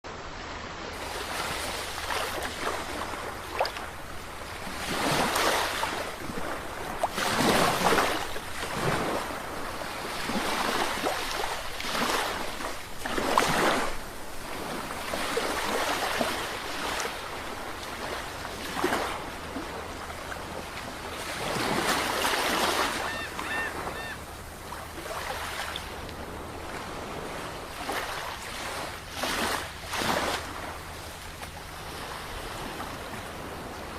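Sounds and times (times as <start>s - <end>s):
sea waves breaking on shore: 0.1s - 33.9s.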